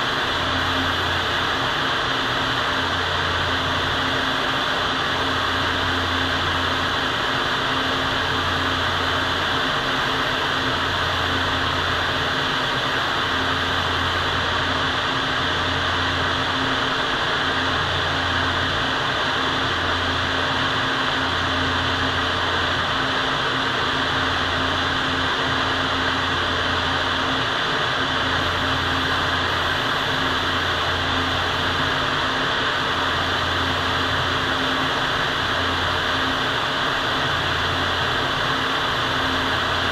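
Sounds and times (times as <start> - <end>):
ventilation fans rushing air: 0.0 - 39.9.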